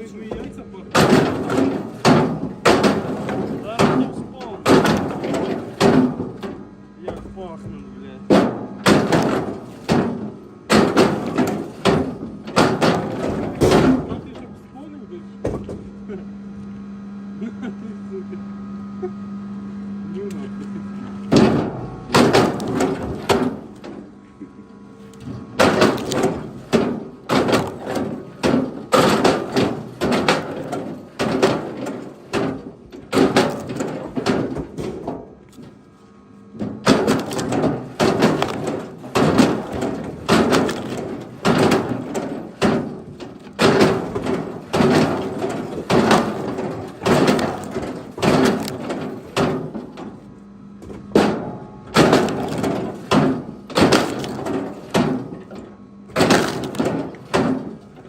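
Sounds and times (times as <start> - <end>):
firewood knocking together: 0.3 - 14.5, 15.4 - 15.9, 21.3 - 24.1, 25.2 - 35.8, 36.6 - 50.2, 50.8 - 58.0.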